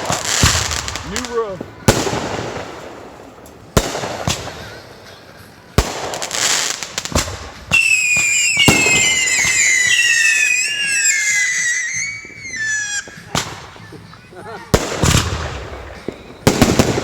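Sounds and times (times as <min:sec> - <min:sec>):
firework bangs: 0:00.0 - 0:17.0
whistling fireworks: 0:00.0 - 0:17.0.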